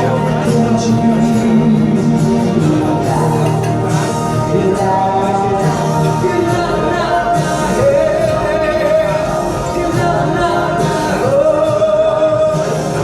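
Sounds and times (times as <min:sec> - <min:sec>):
backing music: 0:00.0 - 0:13.0
person singing live: 0:00.0 - 0:13.0.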